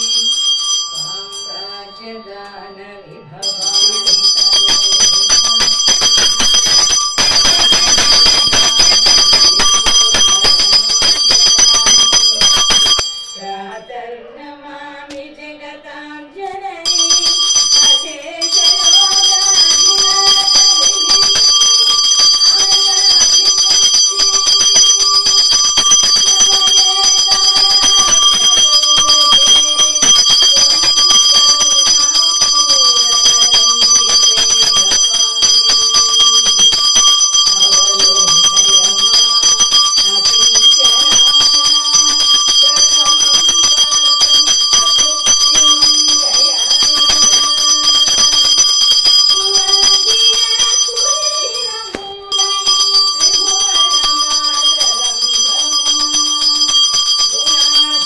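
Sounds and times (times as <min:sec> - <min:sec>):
hand bell rung rapidly: 0:00.0 - 0:02.4, 0:03.4 - 0:13.7, 0:16.9 - 0:58.0.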